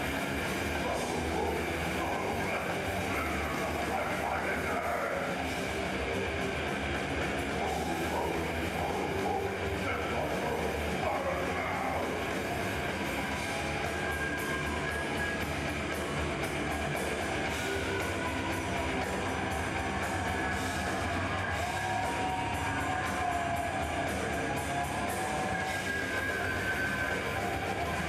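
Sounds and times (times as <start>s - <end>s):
bass guitar: 0.0s - 28.0s
cymbals struck in fast beat: 0.0s - 28.0s
distorted electric guitars: 0.0s - 28.0s
drum kit: 0.0s - 28.0s.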